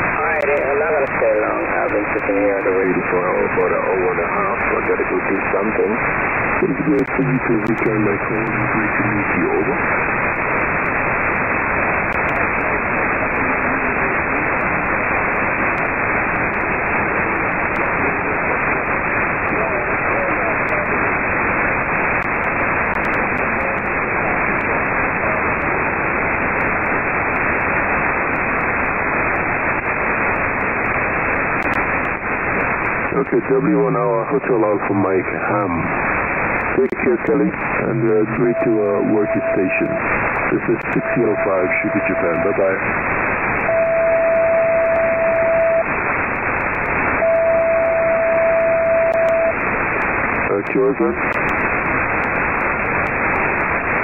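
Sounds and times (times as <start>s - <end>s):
radio receiver static hiss: 0.0s - 54.0s.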